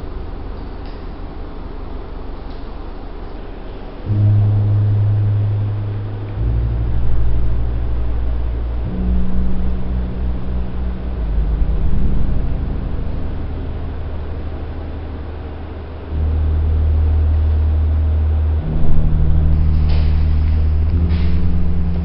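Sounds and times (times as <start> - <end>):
deep drone tones: 0.0 - 22.0.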